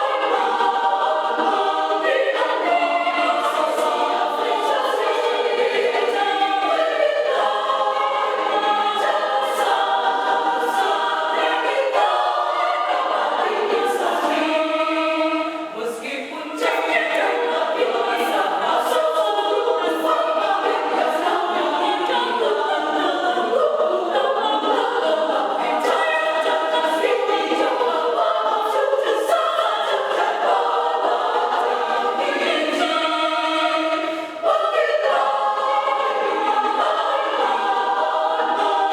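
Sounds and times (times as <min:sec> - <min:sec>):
women's choir singing: 0:00.0 - 0:38.9.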